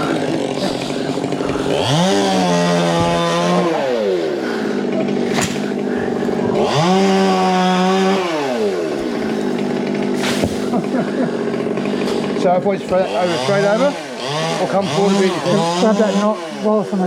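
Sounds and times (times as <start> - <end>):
chainsaw idling and revving: 0.0 - 17.0.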